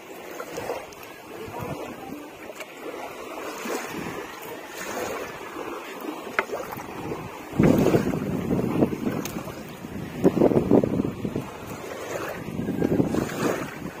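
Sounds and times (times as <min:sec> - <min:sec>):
small waves washing on shore: 0:00.0 - 0:14.0
wind on microphone: 0:00.2 - 0:14.0.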